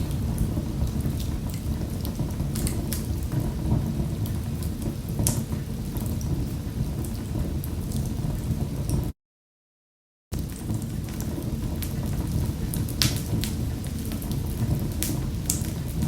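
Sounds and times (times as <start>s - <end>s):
low rumble of flames: 0.0s - 9.1s, 10.4s - 16.0s
sharp pops and snaps of fire: 0.0s - 9.1s, 10.4s - 16.0s
wood fire crackling: 0.0s - 9.1s, 10.4s - 16.0s.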